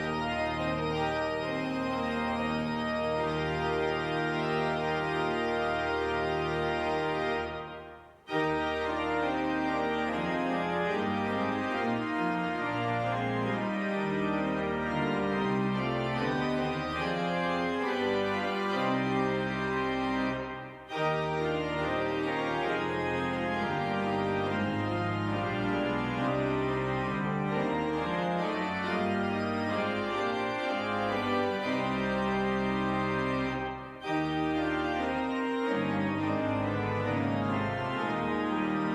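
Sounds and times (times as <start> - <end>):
organ playing sustained chords: 0.0 - 38.9.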